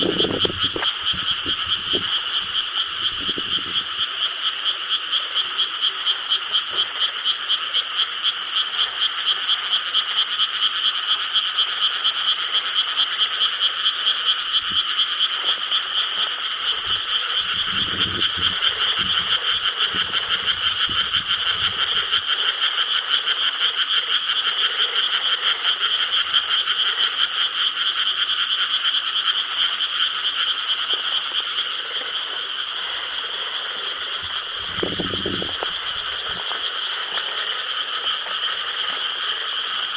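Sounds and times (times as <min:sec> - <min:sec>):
frogs croaking in chorus: 0:00.0 - 0:39.9.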